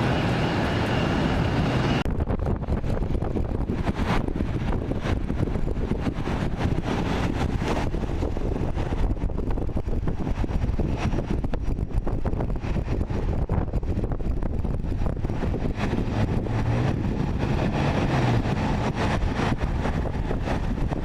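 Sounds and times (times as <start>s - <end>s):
jet engine whine: 0.0s - 21.0s
low rumble: 0.0s - 21.0s
wind buffeting microphone: 0.0s - 21.0s.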